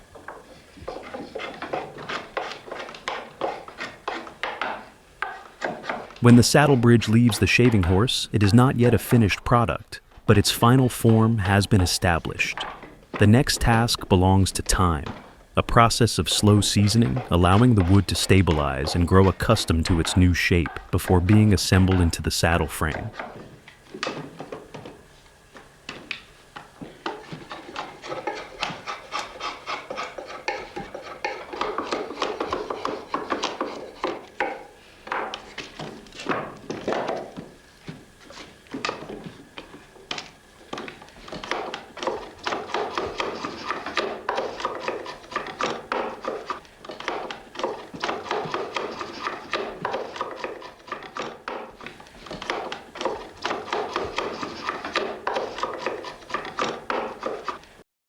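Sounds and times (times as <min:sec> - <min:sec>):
hand tool scraping wood: 0:00.0 - 0:09.4, 0:10.3 - 0:57.8.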